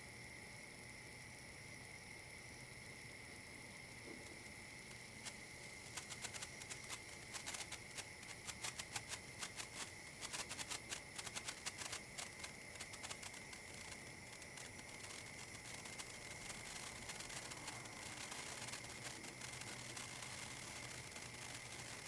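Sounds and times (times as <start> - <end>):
sparkler crackling with tiny pops: 3.9 - 22.0.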